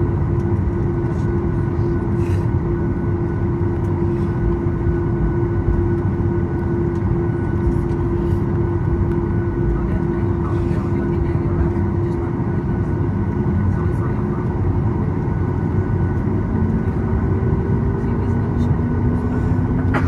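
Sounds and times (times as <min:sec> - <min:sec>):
airplane cabin engine hum: 0:00.0 - 0:20.0.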